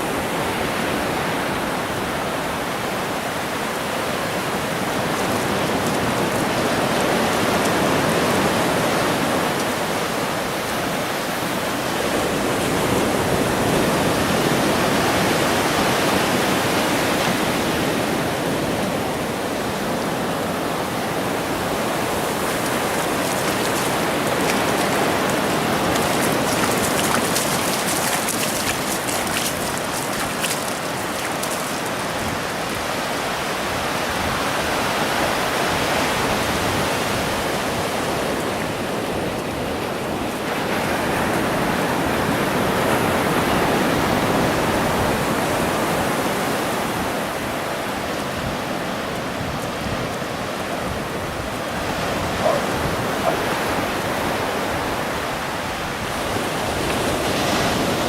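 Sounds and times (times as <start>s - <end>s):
ocean surf washing onto beach: 0.0s - 58.0s.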